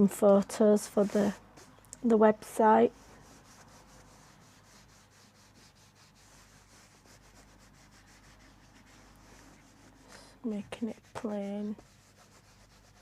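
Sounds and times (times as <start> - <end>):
faint rubbing strokes: 0.5 - 13.0.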